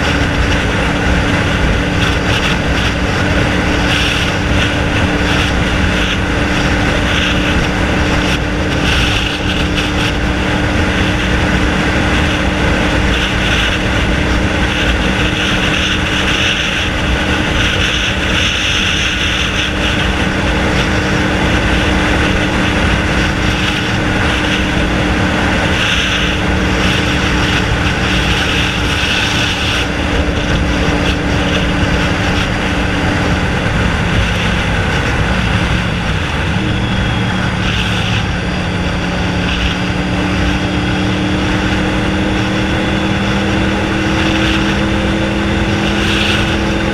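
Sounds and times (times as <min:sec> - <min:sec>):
motorcycle engine running unmuffled: 0:00.0 - 0:46.9.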